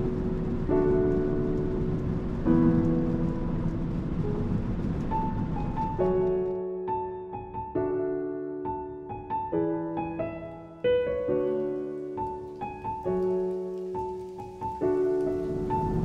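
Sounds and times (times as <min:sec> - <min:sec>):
gentle piano piece: 0:00.0 - 0:16.0.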